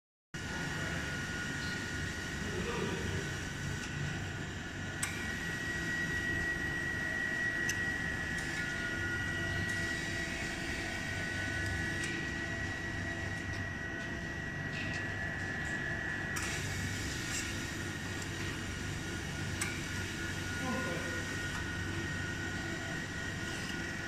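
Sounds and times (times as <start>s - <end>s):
refrigeration unit humming: 0.4s - 24.0s.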